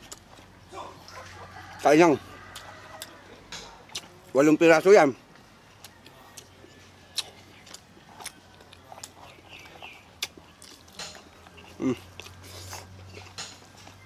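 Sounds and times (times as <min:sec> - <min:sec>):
chewing and lip smacks: 0:00.0 - 0:01.8, 0:02.5 - 0:04.2, 0:05.8 - 0:14.0.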